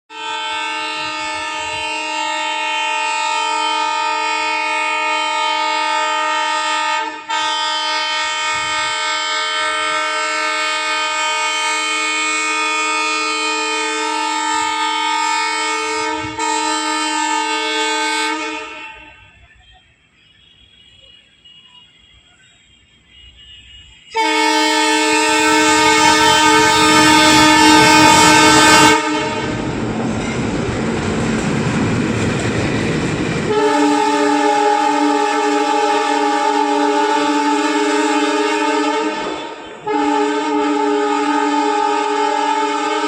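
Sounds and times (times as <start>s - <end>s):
locomotive air horn blast: 0.1s - 29.8s, 33.4s - 43.0s.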